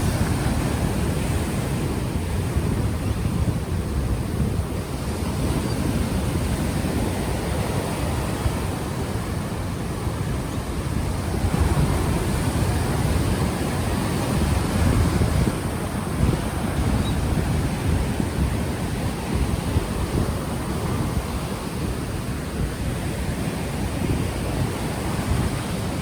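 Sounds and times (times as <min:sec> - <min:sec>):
ocean waves washing on shore: 0:00.0 - 0:26.0
wind buffeting microphone: 0:00.0 - 0:26.0.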